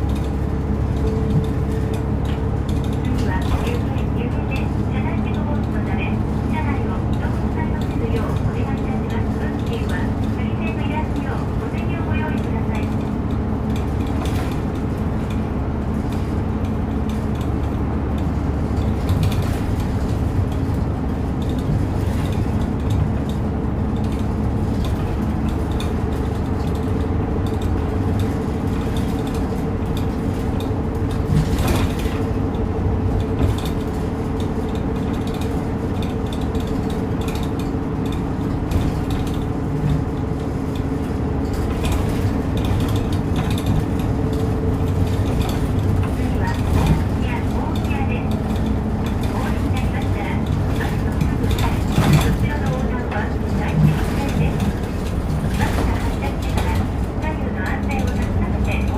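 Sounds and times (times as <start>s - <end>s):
bus engine drone: 0.0s - 58.9s.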